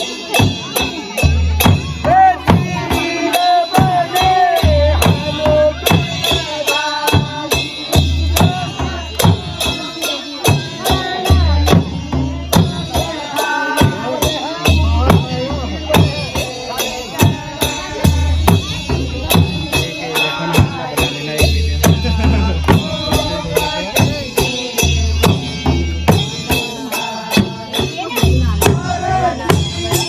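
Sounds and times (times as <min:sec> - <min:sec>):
folk song singing: 0:00.0 - 0:30.0
hand percussion beat: 0:00.0 - 0:30.0.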